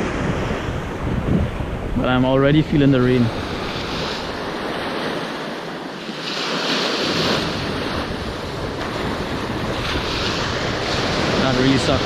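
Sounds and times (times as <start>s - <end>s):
wind buffeting microphone: 0.0s - 5.8s, 7.0s - 12.0s
ocean surf breaking: 0.0s - 12.0s.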